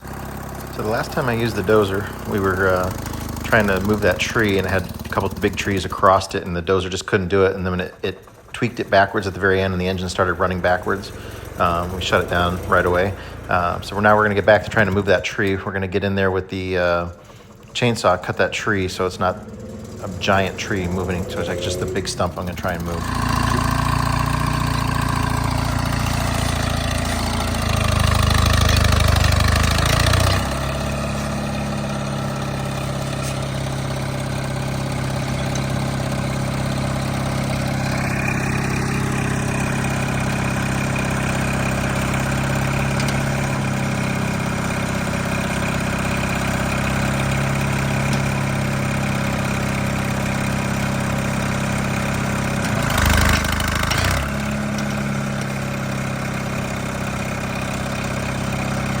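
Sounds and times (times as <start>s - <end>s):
bulldozer engine running: 0.0s - 59.0s.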